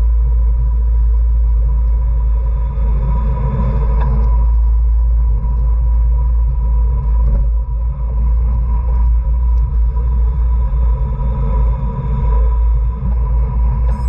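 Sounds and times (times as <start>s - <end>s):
thin steady whine: 0.0s - 14.0s
wind buffeting microphone: 0.0s - 14.0s.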